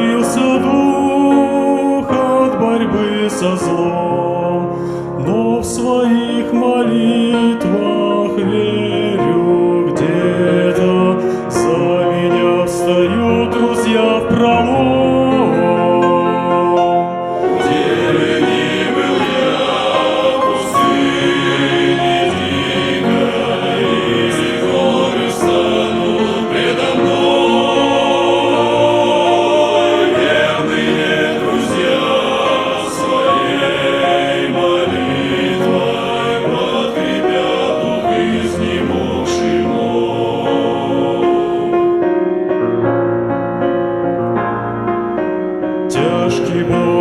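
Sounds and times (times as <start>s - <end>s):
choir singing: 0.0s - 42.0s, 45.9s - 47.0s
instrumental accompaniment: 8.0s - 45.8s.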